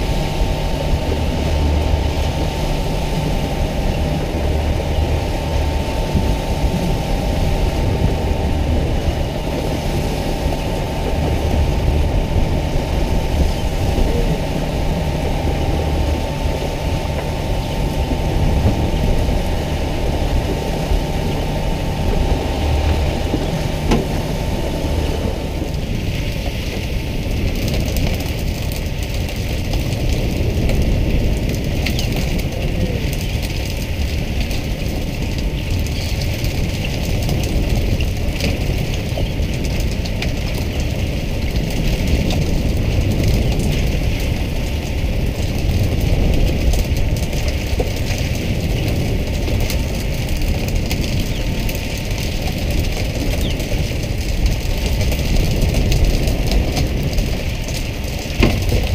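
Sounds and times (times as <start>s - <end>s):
boat engine humming: 0.0s - 58.9s.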